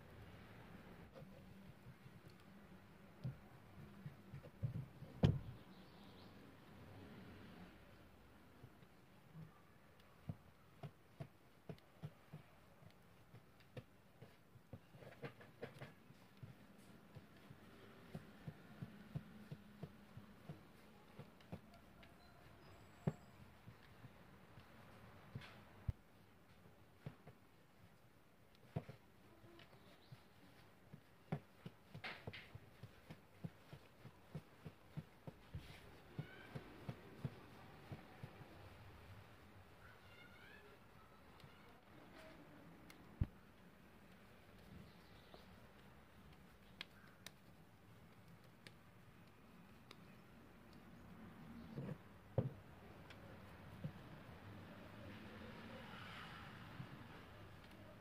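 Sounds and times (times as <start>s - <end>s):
soft thumps of kneading dough: 1.0s - 6.2s, 8.0s - 58.0s.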